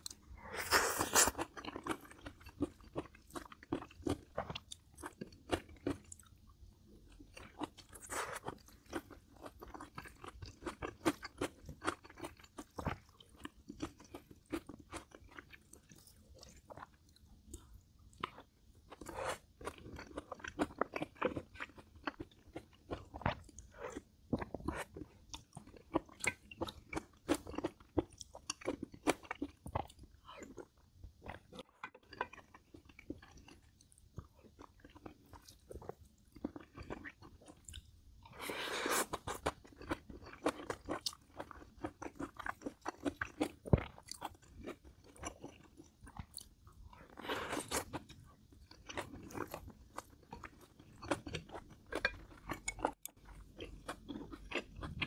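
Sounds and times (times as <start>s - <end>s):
person chewing and crunching food: 0.0s - 55.0s.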